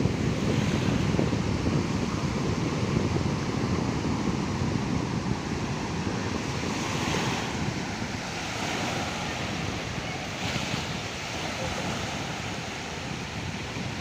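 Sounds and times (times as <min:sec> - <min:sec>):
sea waves washing ashore: 0:00.0 - 0:14.0
wind buffeting microphone: 0:00.0 - 0:14.0.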